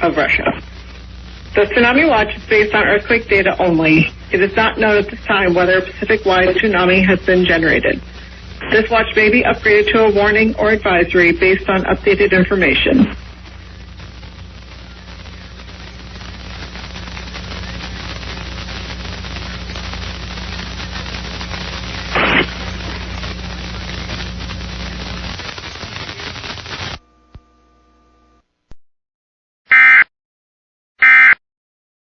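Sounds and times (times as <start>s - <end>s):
static crackle: 0.0s - 27.6s
broadcast static hiss: 0.0s - 28.4s
faint hum: 0.0s - 28.5s.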